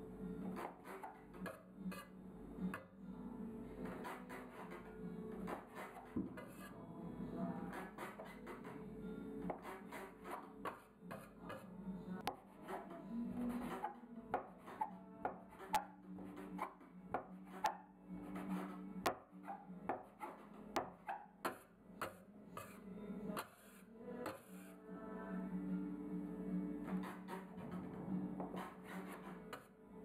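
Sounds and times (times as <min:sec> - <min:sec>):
quiet background music: 0:00.0 - 0:30.0.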